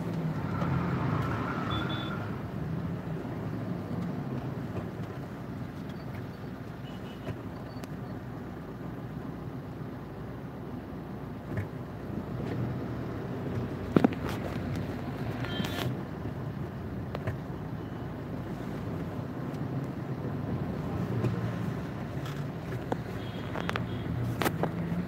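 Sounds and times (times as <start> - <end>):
traffic and car engine rumble: 0.0 - 25.0.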